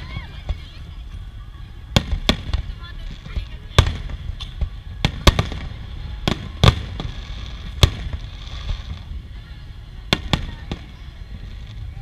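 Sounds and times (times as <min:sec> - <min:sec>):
fireworks fizzing crackle: 0:00.0 - 0:12.0
fireworks bangs: 0:01.8 - 0:12.0.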